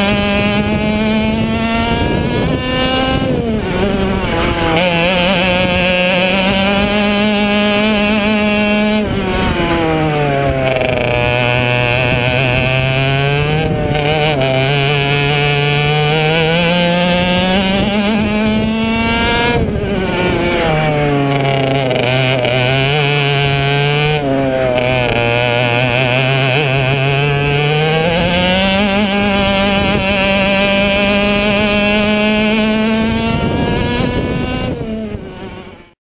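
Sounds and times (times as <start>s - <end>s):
kart engine revving: 0.0s - 36.0s.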